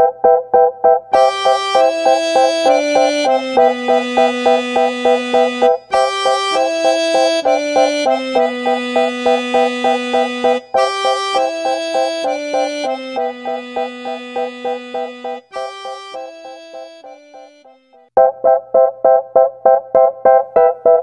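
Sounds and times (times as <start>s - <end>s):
held bass notes: 0.0s - 17.6s
pulsing chord pattern: 0.0s - 19.5s
sustained keyboard notes: 0.0s - 21.0s.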